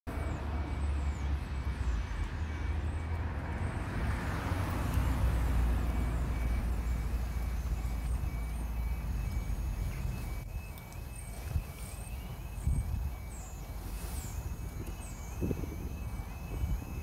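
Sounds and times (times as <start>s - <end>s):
car road noise: 0.1s - 17.0s
level crossing alarm tones: 0.1s - 17.0s.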